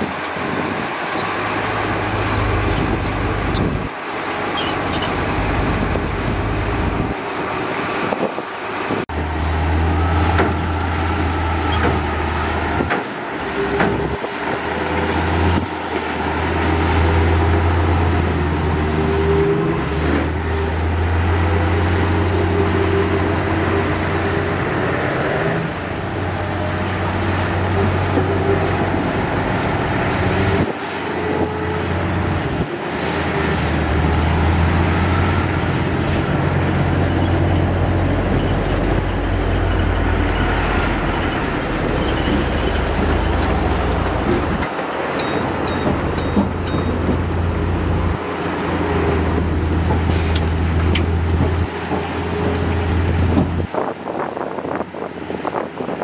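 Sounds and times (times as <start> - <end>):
heavy diesel machinery droning: 0.0 - 56.0.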